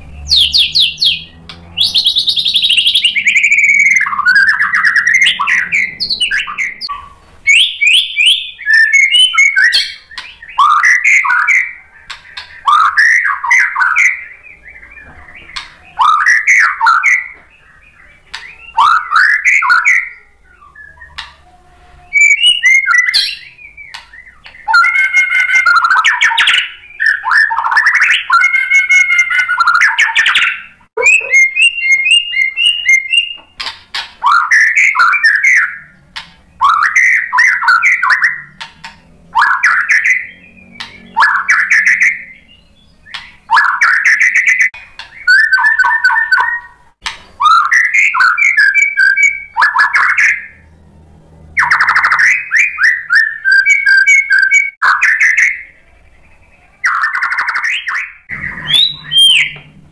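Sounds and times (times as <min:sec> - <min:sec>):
bird singing whistled phrases: 0:00.0 - 0:33.6, 0:34.2 - 0:38.6, 0:39.3 - 0:46.8, 0:47.4 - 0:50.6, 0:51.6 - 0:59.7.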